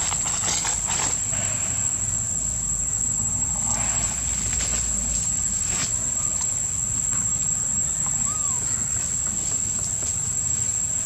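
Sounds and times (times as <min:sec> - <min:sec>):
faint low rumble: 0:00.0 - 0:11.0
insects droning: 0:00.0 - 0:11.0.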